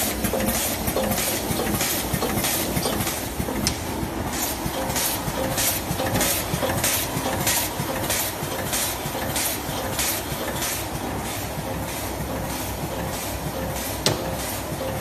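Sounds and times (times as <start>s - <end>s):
packing machine clatter: 0.0s - 15.0s.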